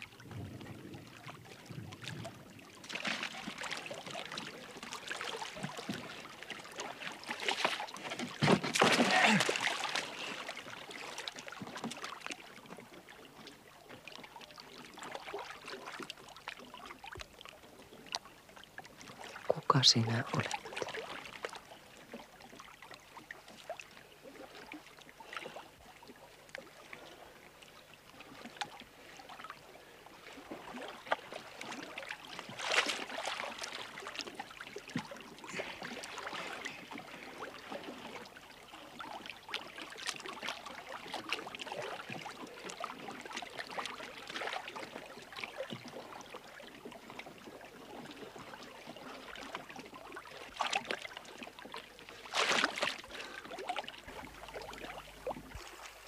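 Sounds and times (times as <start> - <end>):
water lapping and splashing: 0.0 - 56.0.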